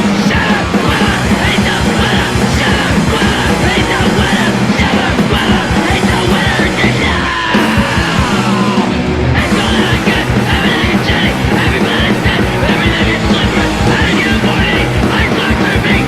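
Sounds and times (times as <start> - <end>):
bass guitar: 0.0 - 16.0
distorted guitars: 0.0 - 16.0
drums: 0.0 - 16.0
shouted vocals: 0.0 - 16.0.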